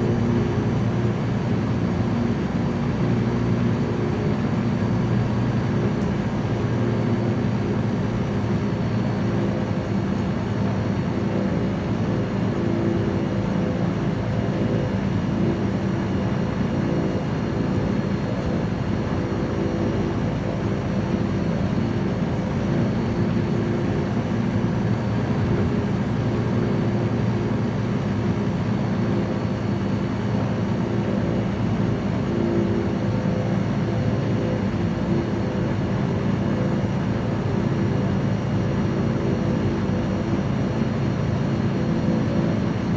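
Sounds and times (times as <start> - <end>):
light aircraft engine droning: 0.0 - 42.9.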